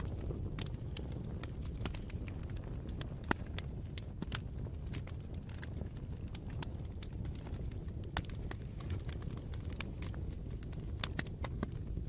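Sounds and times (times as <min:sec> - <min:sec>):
campfire flames rumbling: 0:00.0 - 0:12.0
fire crackles and pops: 0:00.0 - 0:12.0.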